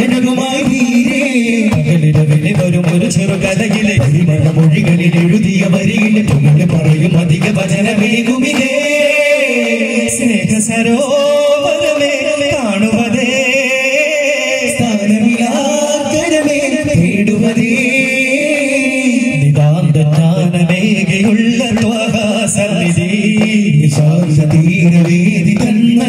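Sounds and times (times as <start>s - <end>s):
frame drums beating: 0.0s - 26.0s
men singing together through a pa: 0.0s - 26.0s.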